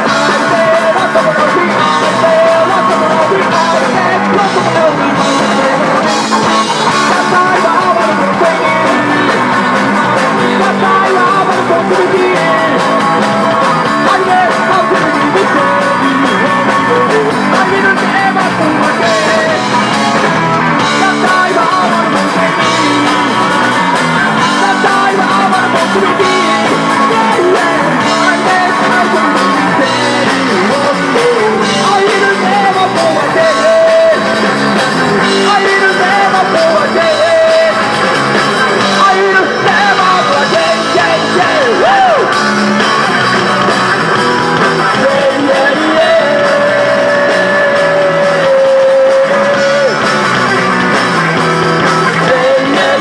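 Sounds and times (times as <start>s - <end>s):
man singing into microphone: 0.0s - 38.1s, 38.8s - 42.6s, 44.8s - 50.2s, 52.0s - 53.0s
bass guitar: 0.0s - 53.0s
drum kit: 0.0s - 53.0s
electric guitar: 0.0s - 53.0s.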